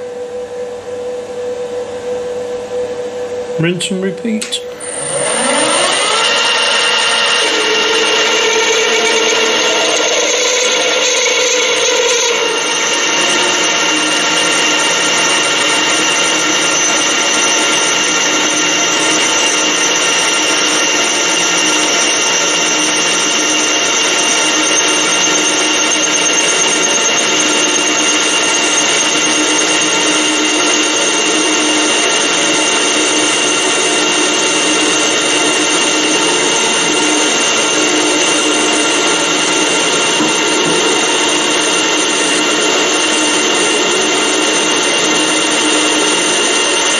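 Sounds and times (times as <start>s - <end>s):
metal lathe whining: 4.5s - 46.9s.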